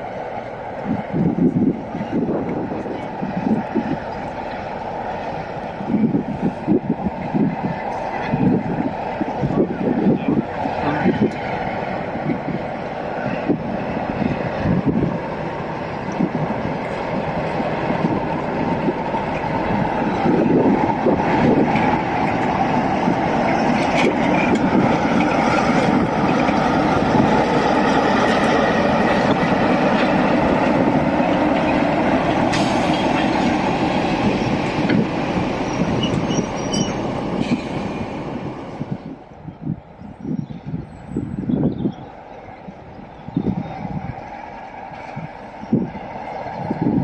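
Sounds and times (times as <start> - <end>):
diesel locomotive engine: 0.0 - 47.0
train wheels rumbling on track: 0.0 - 47.0.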